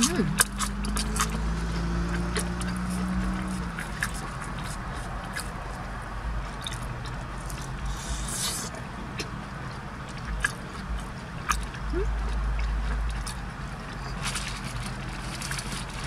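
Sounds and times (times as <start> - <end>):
chewing and wet mouth clicks: 0.0 - 15.7
steady low hum: 0.0 - 16.0.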